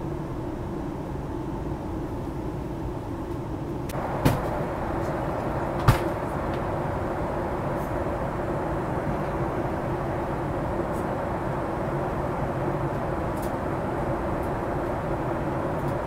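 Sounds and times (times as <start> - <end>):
airliner cabin engine noise: 0.0 - 16.0.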